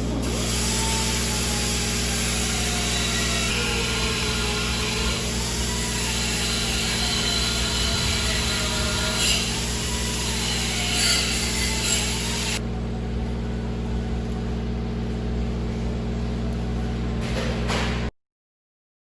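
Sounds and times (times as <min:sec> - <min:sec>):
low machine hum: 0:00.0 - 0:18.1.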